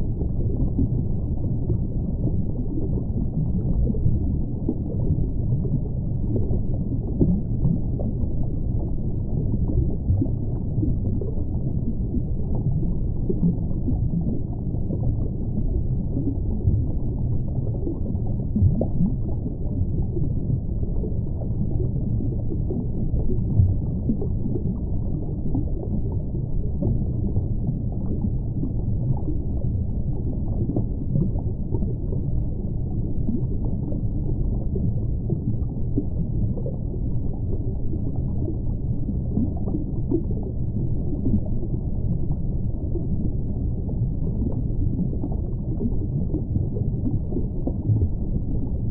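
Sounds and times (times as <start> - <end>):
underwater low rumble: 0.0 - 48.9.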